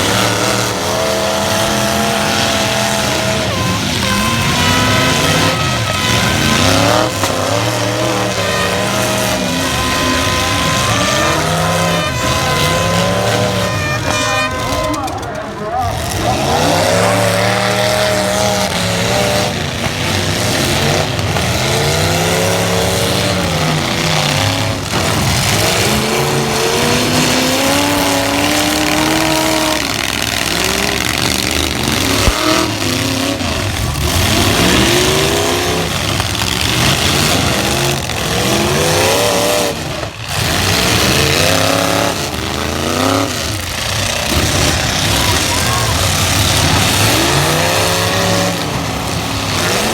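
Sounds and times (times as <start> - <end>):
tire noise: 0.0 - 49.9
truck engines revving hard: 0.0 - 49.9.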